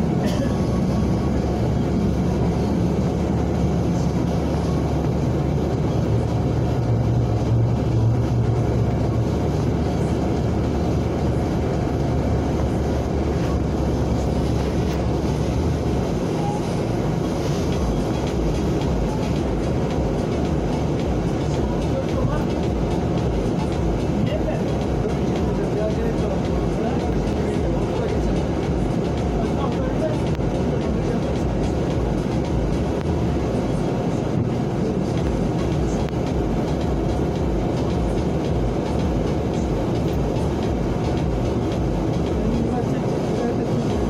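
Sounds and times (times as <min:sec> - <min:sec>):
vehicle engine and road rumble: 0:00.0 - 0:44.0.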